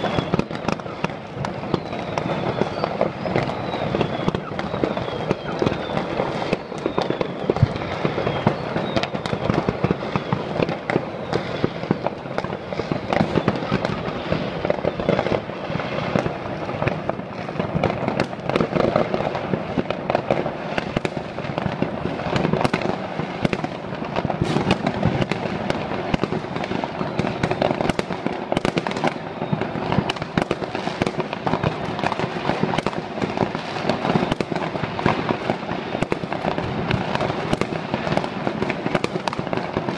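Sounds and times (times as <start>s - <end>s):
fireworks and firecrackers crackling: 0.0s - 39.9s.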